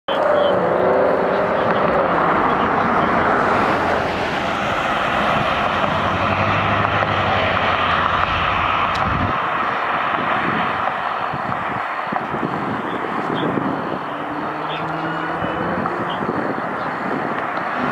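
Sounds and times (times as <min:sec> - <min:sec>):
distant fire engine sirens: 0:00.1 - 0:17.9
passing traffic: 0:00.1 - 0:17.9
passing vehicle rumble: 0:00.1 - 0:17.9.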